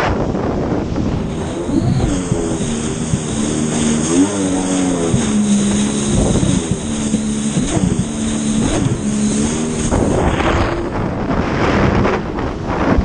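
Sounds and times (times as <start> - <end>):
personal watercraft engine revving: 0.0 - 13.0
wind: 0.0 - 13.0
water splashing: 1.0 - 12.3.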